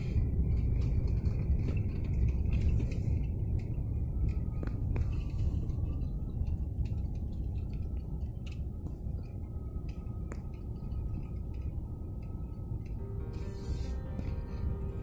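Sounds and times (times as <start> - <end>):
vehicle road and wind rumble: 0.0 - 15.0.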